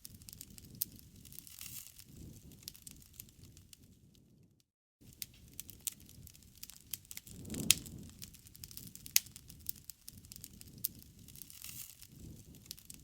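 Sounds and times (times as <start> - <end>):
campfire crackling and popping: 0.0 - 13.0
low rumble of flame: 0.0 - 13.0.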